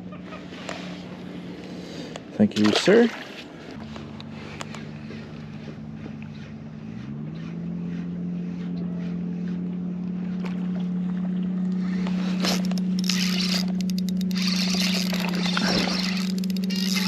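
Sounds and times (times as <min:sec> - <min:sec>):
boat motor humming: 0:00.0 - 0:17.0
wind: 0:00.0 - 0:17.0
water noise: 0:01.1 - 0:08.4, 0:09.2 - 0:17.0.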